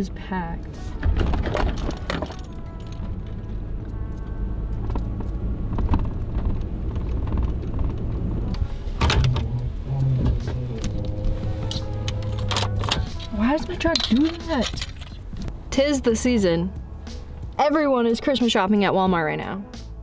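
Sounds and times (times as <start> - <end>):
truck engine and road rumble: 0.0 - 20.0
low hum: 0.3 - 17.7.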